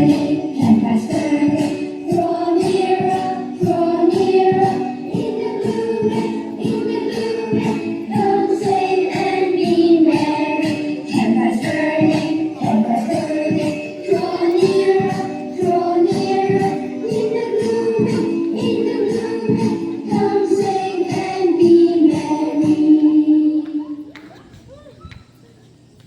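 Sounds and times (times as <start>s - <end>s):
steady beat: 0.0s - 22.9s
group singing: 0.0s - 23.7s.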